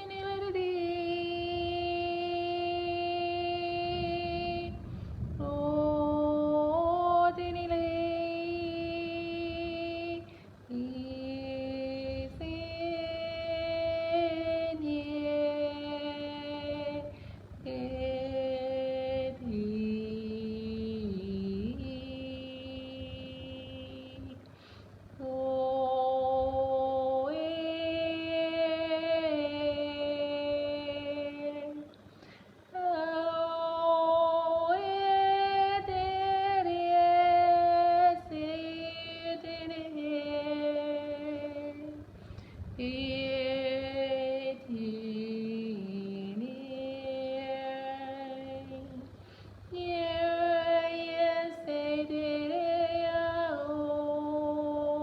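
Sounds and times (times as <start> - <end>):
woman singing wordless held tones: 0.0 - 55.0.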